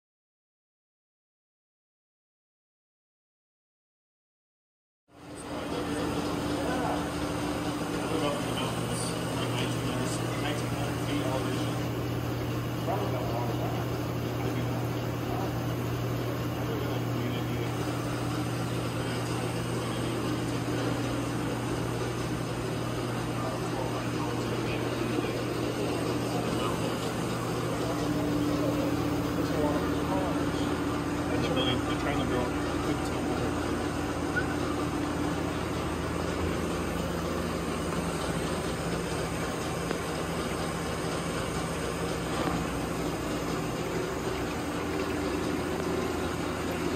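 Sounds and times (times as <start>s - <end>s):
machinery humming: 5.1s - 46.9s.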